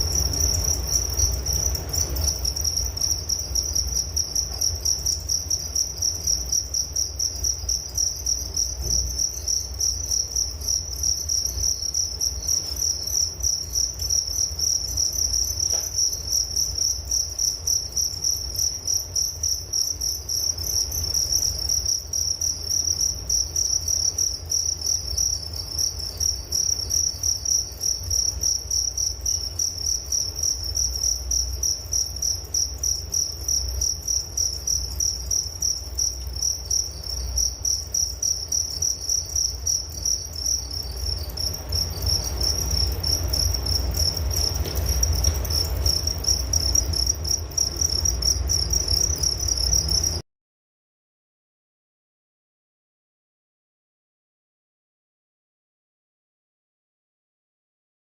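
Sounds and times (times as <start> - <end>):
crickets chirping: 0.0 - 50.2.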